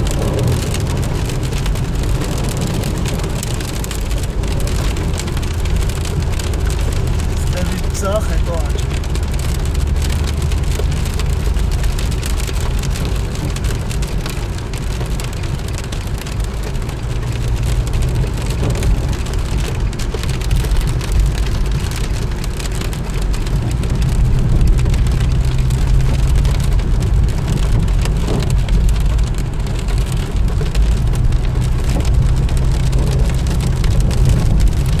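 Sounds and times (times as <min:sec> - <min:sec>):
car driving on wet road: 0:00.0 - 0:35.0
heavy rain on a car: 0:00.0 - 0:35.0.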